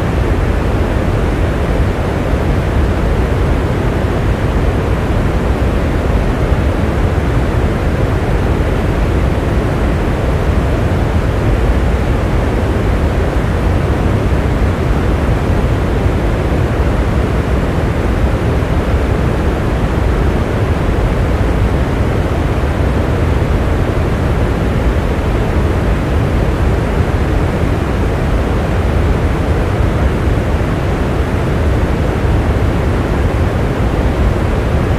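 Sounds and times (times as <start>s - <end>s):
steady dense rain: 0.0s - 34.9s.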